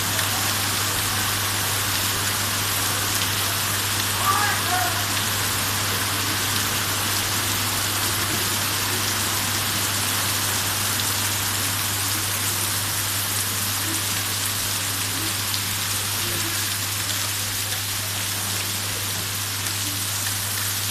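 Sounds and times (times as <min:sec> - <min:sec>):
steady rain: 0:00.0 - 0:20.9.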